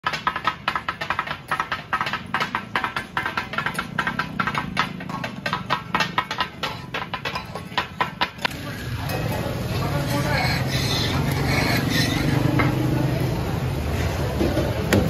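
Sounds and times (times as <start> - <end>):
metal spatulas clattering on griddle: 0.0 - 13.1.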